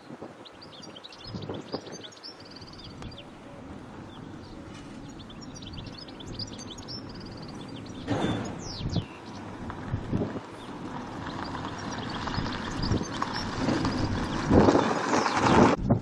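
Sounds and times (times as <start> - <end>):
small bird chirping: 0.4 - 9.6, 10.6 - 15.7
low outdoor rumble: 0.7 - 16.0.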